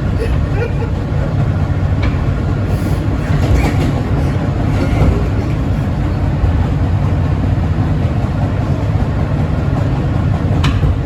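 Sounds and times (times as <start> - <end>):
subway train wheels on rail: 0.0 - 11.0.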